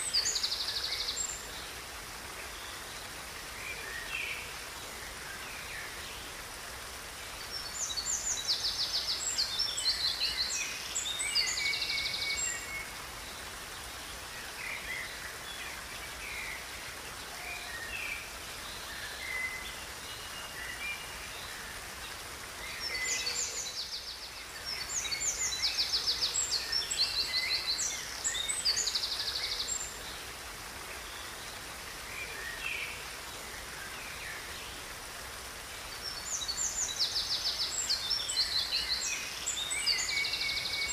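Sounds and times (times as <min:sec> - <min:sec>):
flowing river water: 0:00.0 - 0:40.9.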